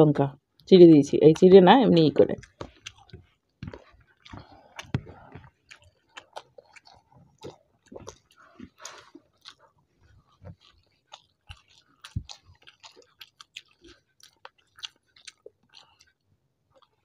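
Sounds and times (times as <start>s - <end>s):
wet chewing and lip-smacking: 1.4s - 17.0s.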